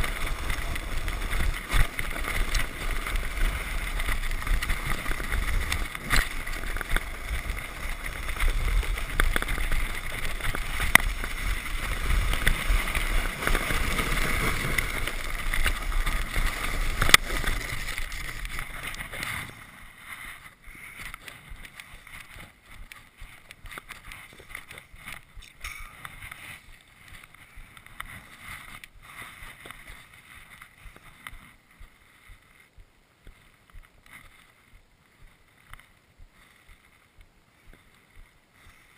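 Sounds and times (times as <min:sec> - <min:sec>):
sled scraping over snow: 0:00.0 - 0:38.9
snow crunching: 0:00.0 - 0:38.9
wind rumbling on microphone: 0:00.0 - 0:38.9.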